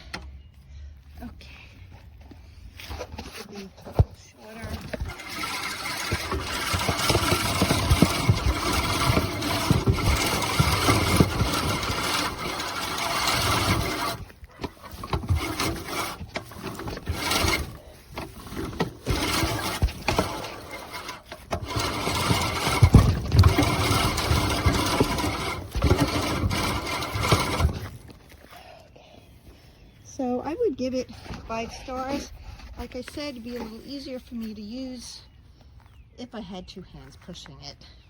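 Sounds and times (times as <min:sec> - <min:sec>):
push reel mower cutting grass: 0:02.8 - 0:28.8, 0:30.2 - 0:35.2.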